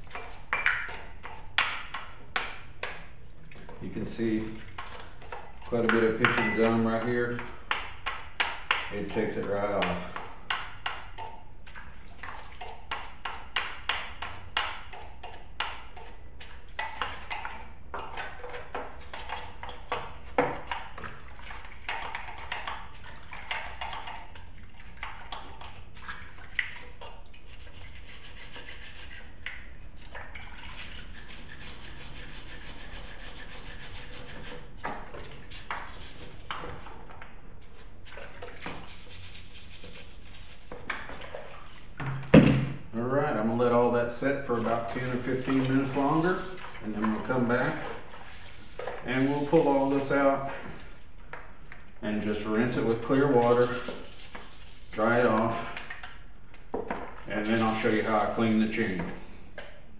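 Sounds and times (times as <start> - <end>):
brush scrubbing: 0.0 - 2.6, 3.7 - 42.0, 44.3 - 50.6, 52.3 - 56.1, 57.3 - 59.1.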